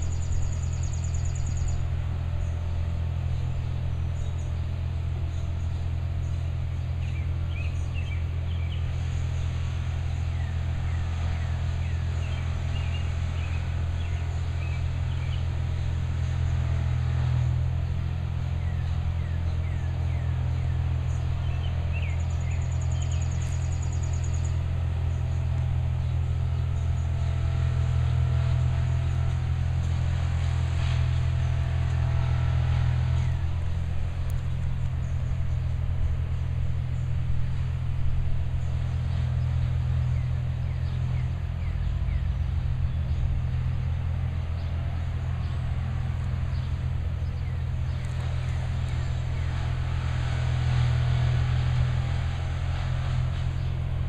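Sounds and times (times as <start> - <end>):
birds chirping: 0.0 - 54.0
distant engine droning: 0.0 - 54.0.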